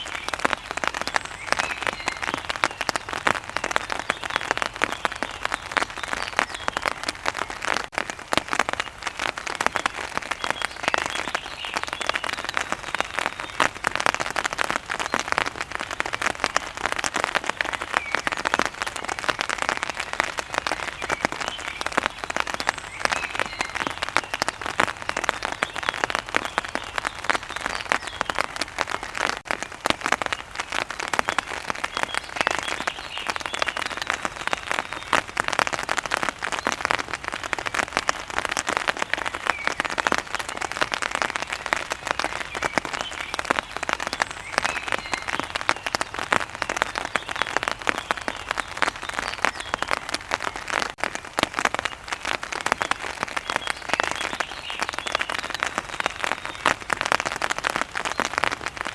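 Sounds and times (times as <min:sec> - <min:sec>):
heavy rain on hard surface: 0:00.0 - 0:58.9.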